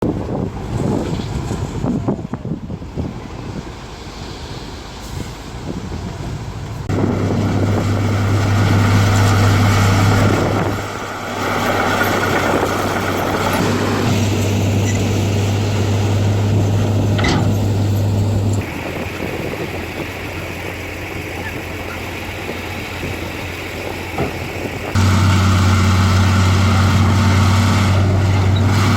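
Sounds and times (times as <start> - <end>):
wind noise: 0.0 - 28.9
diesel construction machinery running: 0.1 - 28.9.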